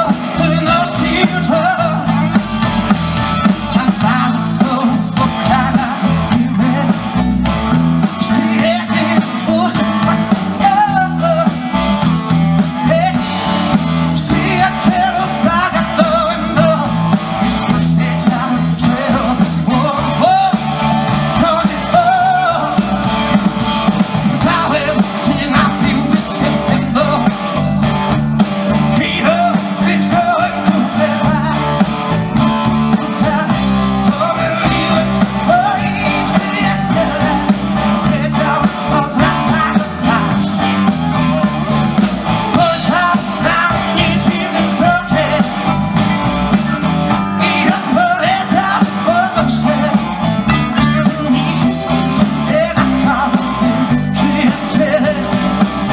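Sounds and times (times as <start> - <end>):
male singer: 0.0 - 7.4, 8.0 - 11.9, 12.6 - 23.4, 24.2 - 27.7, 28.7 - 32.0, 32.6 - 41.3, 42.4 - 45.8, 47.3 - 55.9
drums: 0.0 - 55.9
guitar: 0.0 - 55.9.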